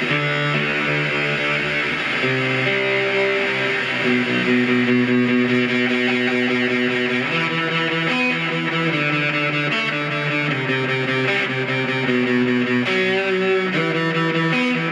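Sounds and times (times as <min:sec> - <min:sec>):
distorted electric guitar: 0:00.0 - 0:14.9.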